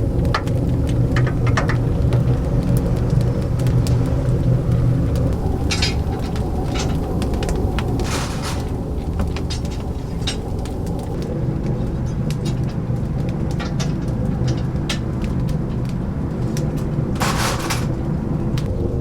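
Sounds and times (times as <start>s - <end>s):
wood fire crackling in an oven: 0.0s - 19.0s.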